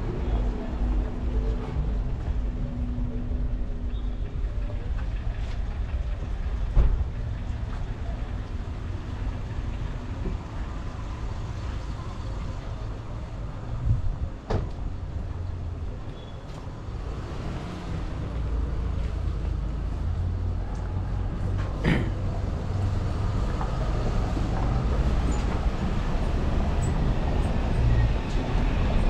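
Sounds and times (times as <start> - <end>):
low rumble of traffic: 0.0 - 29.0.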